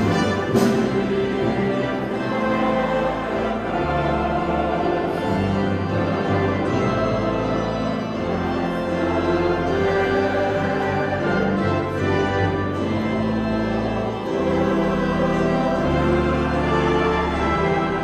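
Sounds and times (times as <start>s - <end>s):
church choir singing: 0.0s - 18.0s
pipe organ: 0.0s - 18.0s.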